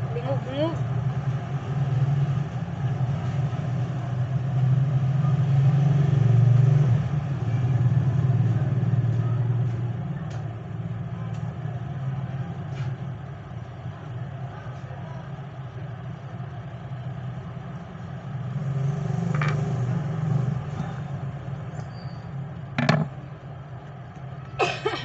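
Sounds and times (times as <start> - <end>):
vehicle engine running: 0.0 - 24.6.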